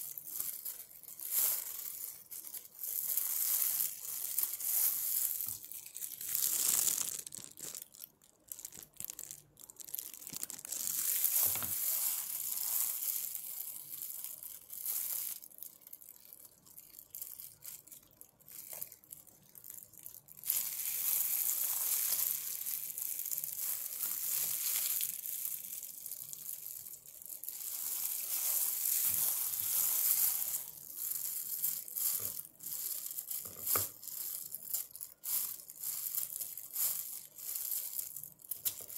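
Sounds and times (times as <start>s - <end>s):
leaves rustling and crinkling: 0.0s - 18.0s, 19.6s - 38.9s.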